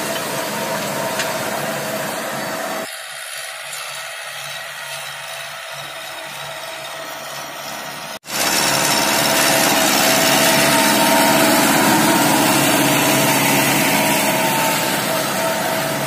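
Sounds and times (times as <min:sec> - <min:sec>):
harrow discs grinding soil: 0:00.0 - 0:16.0
tractor diesel engine under load: 0:00.0 - 0:16.0.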